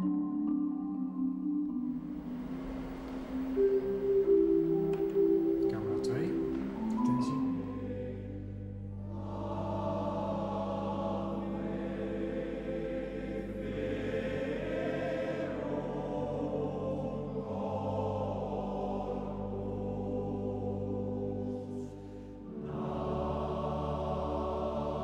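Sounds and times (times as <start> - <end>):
men's choir singing chords: 1.9 - 25.0.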